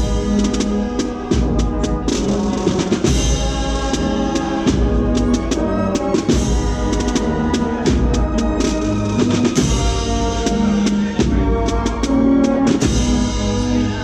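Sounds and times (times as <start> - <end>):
drums beating: 0.0 - 14.0
marching band playing: 0.0 - 14.0.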